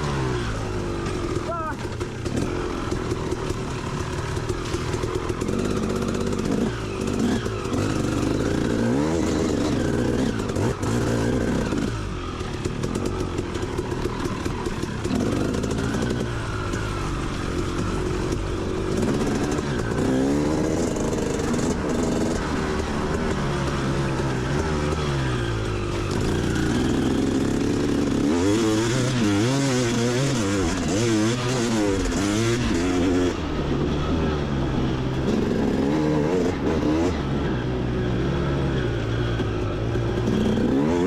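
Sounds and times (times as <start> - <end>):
motorbike engine revving: 0.0 - 41.0.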